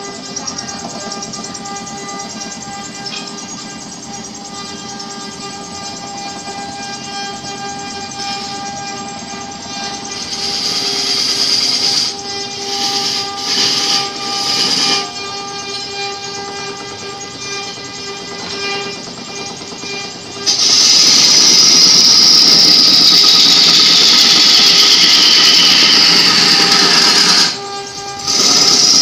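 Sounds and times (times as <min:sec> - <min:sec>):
chisel scraping spinning wood: 0:00.0 - 0:29.0
wood lathe motor hum: 0:00.0 - 0:29.0.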